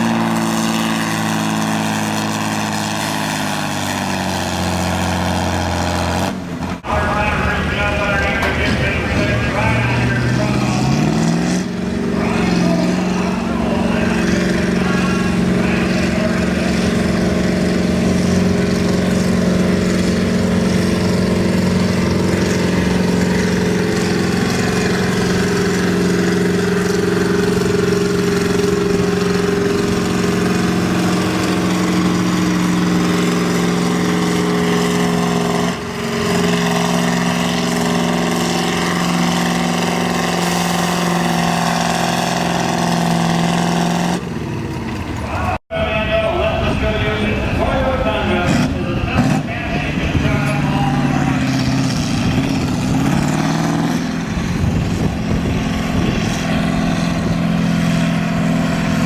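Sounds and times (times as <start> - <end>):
tractor engine at high revs: 0.0 - 59.0.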